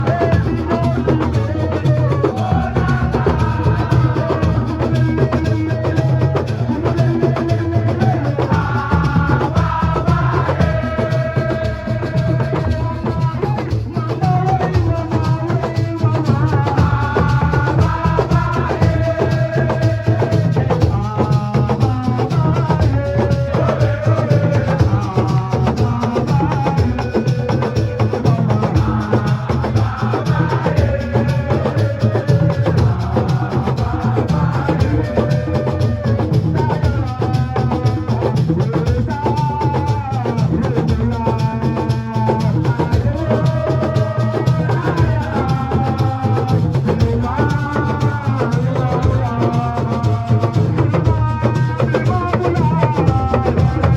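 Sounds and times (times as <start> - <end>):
drum beat: 0.0 - 53.9.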